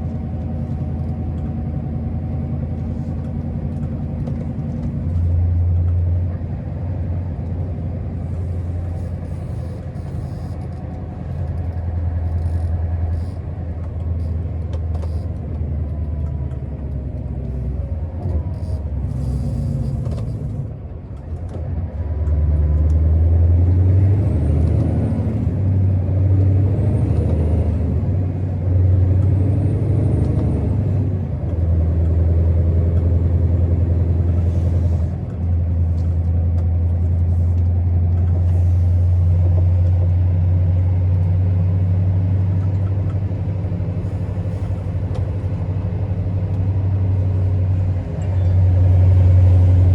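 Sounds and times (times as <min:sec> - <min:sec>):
diesel truck engine droning: 0:00.0 - 0:49.9.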